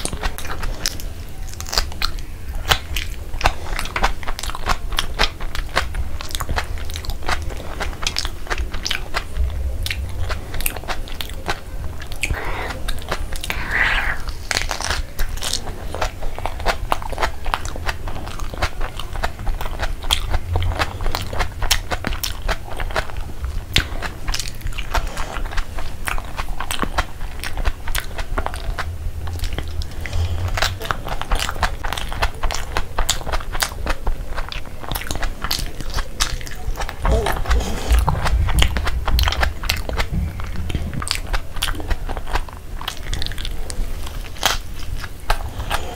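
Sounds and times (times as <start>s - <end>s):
chewing crunches and mouth clicks: 0.0s - 45.9s.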